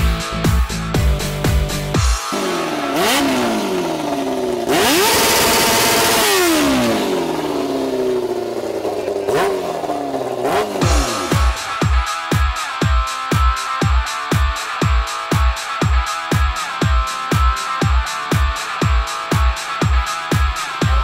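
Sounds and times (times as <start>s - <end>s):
electronic music beat: 0.0s - 8.2s, 9.0s - 21.0s
go-kart engine revving: 1.8s - 21.0s.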